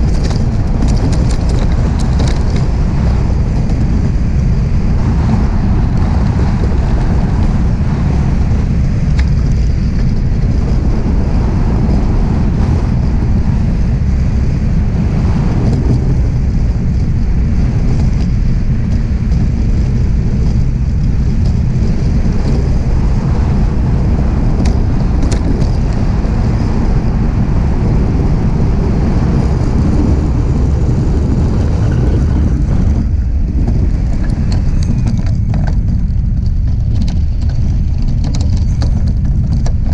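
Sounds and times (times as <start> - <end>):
runners rumbling on ice: 0.0 - 39.9
wind buffeting microphone: 0.0 - 39.9.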